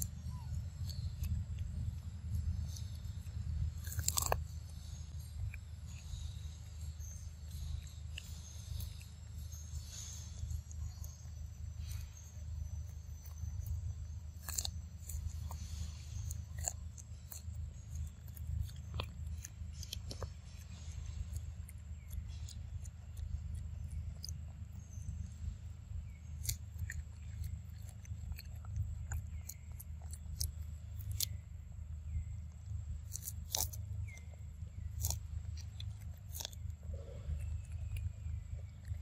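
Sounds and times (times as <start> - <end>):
low rumble: 0.0 - 39.0
monkey chewing corn: 0.0 - 39.0.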